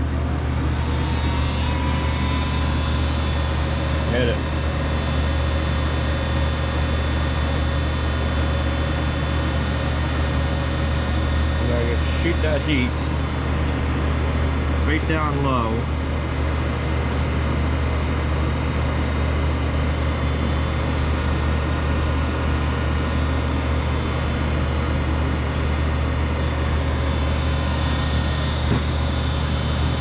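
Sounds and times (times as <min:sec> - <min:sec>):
blower and torch rushing hum: 0:00.0 - 0:30.0.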